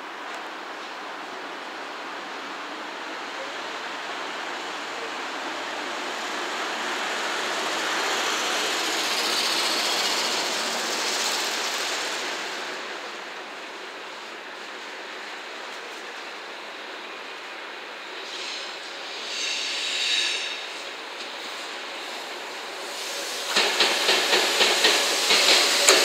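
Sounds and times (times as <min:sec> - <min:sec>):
rushing rail traffic: 0:00.0 - 0:26.0.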